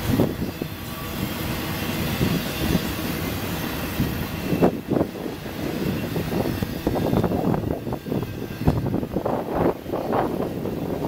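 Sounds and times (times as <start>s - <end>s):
steel wheels on track: 0.0s - 11.0s.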